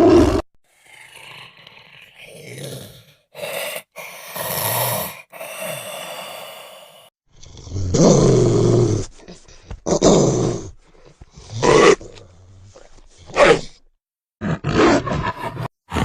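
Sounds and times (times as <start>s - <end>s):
snarls and growls: 0.0s - 6.8s, 7.4s - 13.8s, 14.4s - 16.0s.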